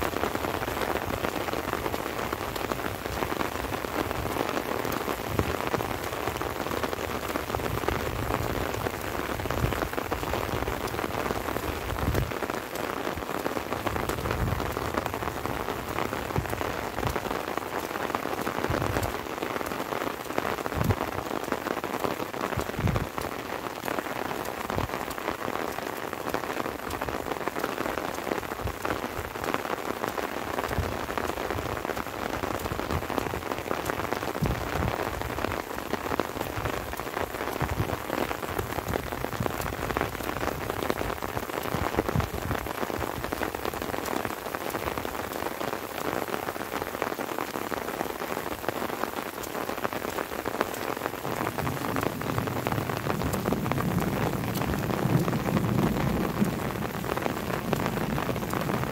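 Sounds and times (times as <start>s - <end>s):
light rain falling: 0.0s - 58.9s
raindrops pattering: 0.0s - 58.9s.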